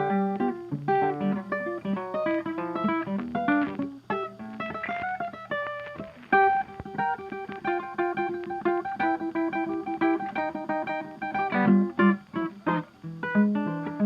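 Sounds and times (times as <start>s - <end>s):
plucked acoustic guitar: 0.0s - 14.0s.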